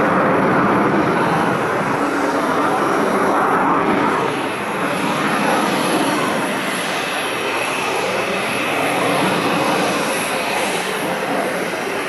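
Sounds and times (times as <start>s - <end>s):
fighter jet flying overhead: 0.0s - 12.0s.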